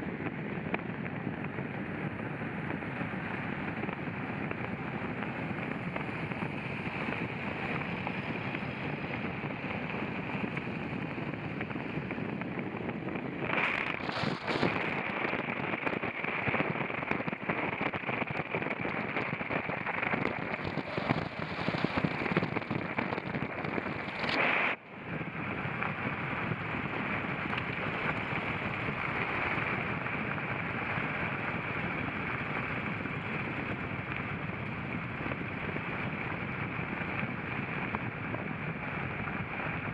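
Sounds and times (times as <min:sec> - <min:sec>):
off-road vehicle driving: 0:00.0 - 0:39.9
wind on microphone: 0:00.0 - 0:39.9.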